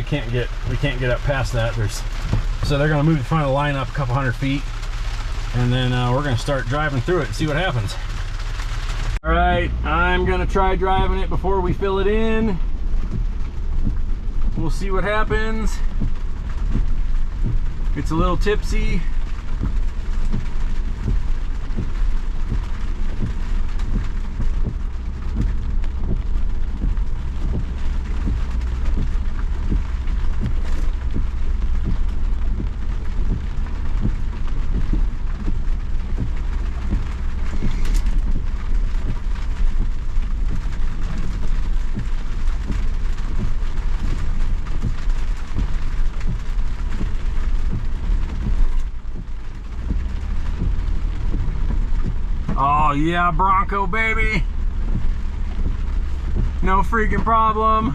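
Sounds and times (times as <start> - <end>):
engine low rumble: 0.0 - 57.9
raindrops ticking: 0.0 - 57.9.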